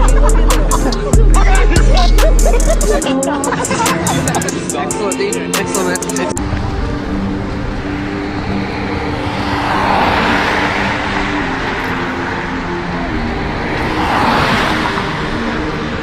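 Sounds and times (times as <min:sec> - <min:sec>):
vehicles passing by: 0:00.0 - 0:16.0.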